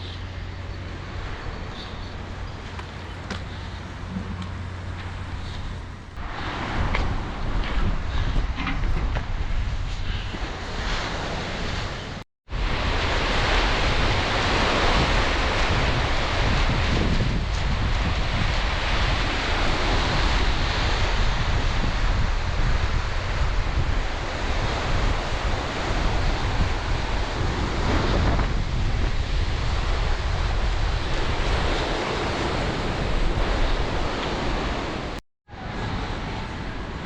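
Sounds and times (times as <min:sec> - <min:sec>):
wind buffeting the microphone: 0:00.0 - 0:37.0
surf washing onto a beach: 0:06.2 - 0:37.0.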